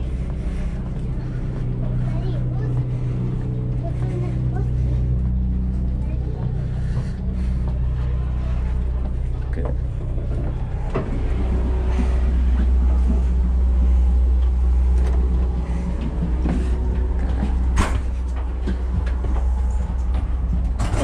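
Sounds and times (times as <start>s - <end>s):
railcar rumble: 0.0s - 21.0s.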